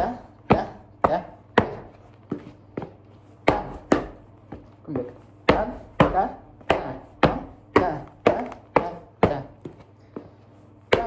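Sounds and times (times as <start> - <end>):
boots stamping on hard floor: 0.2 - 11.0.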